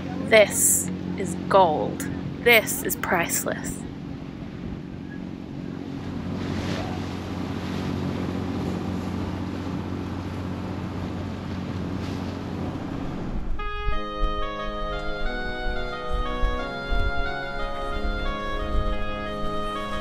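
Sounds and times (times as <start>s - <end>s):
water rushing along hull: 0.0s - 20.0s
wind buffeting microphone: 3.7s - 20.0s.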